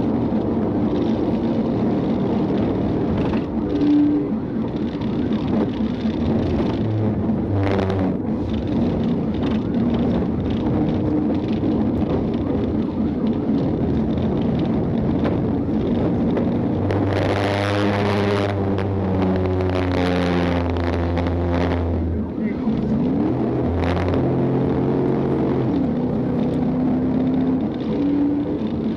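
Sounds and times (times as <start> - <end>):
car engine running at speed: 0.0 - 28.9
road and wind noise: 0.0 - 28.9.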